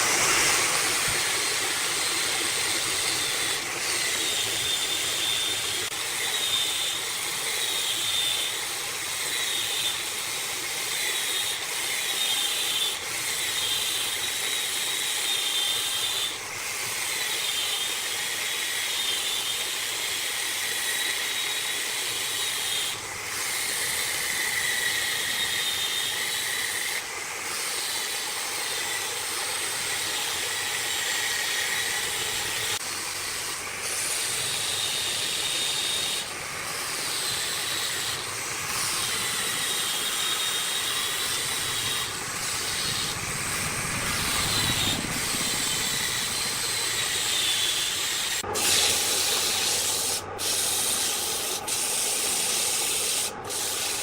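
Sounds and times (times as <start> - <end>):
wood lathe turning wood: 0.0 - 54.0.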